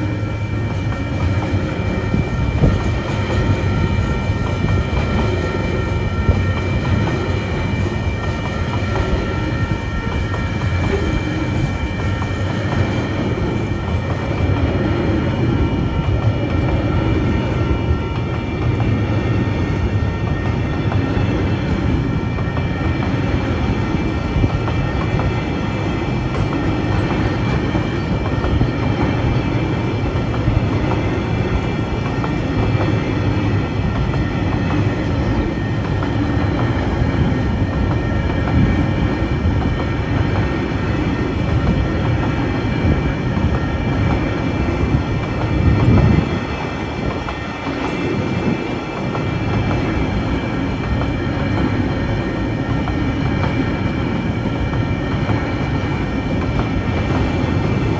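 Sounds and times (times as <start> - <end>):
train wheels clattering on rails: 0.6 - 57.9.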